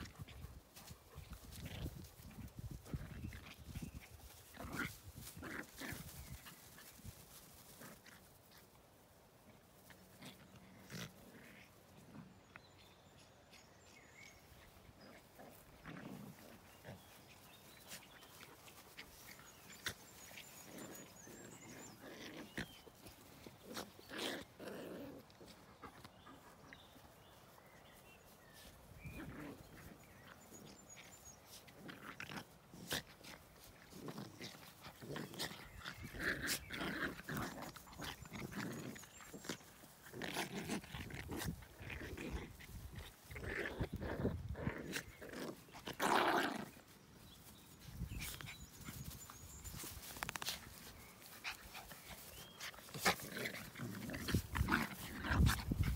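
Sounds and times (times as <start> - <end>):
puppies growling and yipping: 0.0 - 8.8, 9.5 - 55.9.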